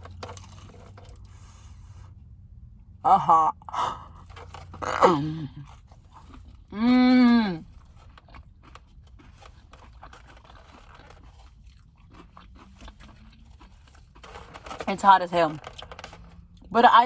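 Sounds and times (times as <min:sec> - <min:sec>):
chewing crunchy food: 0:00.0 - 0:02.4, 0:04.0 - 0:17.0.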